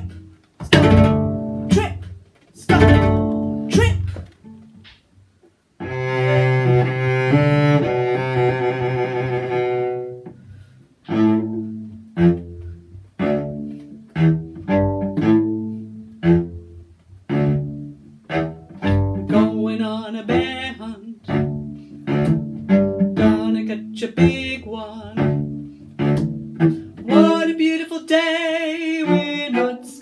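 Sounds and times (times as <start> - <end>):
low string instrument music: 0.0 - 30.0.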